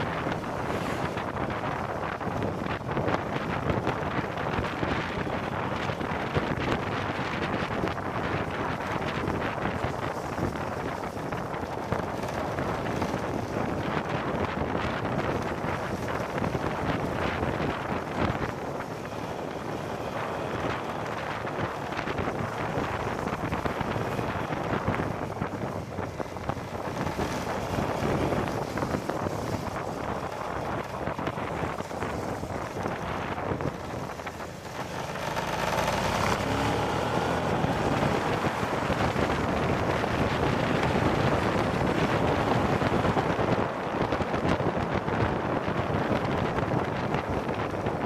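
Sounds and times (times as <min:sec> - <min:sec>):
motorcycle engine running: 0:00.0 - 0:48.0
wind rushing over microphone: 0:00.0 - 0:48.0.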